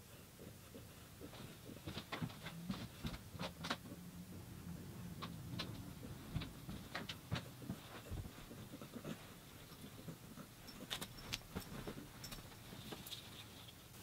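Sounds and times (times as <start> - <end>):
faint low hum: 0.0 - 14.0
soft rustles on blanket: 0.6 - 3.7, 5.1 - 13.8.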